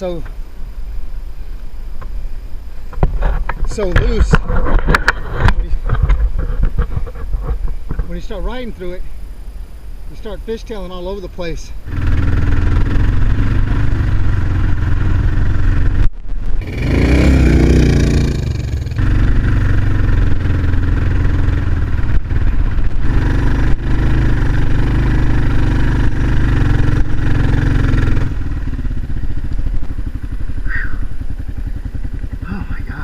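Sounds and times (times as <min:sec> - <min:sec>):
motorcycle engine under load: 0:01.1 - 0:09.2, 0:11.8 - 0:33.0.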